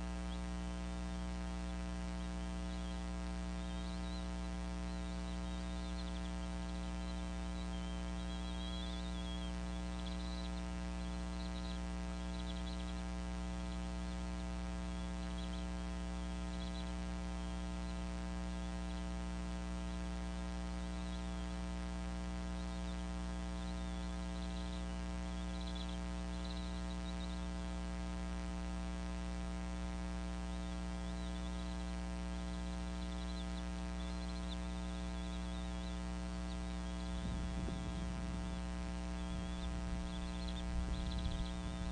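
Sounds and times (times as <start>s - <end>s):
electrical mains hum: 0.0s - 41.9s.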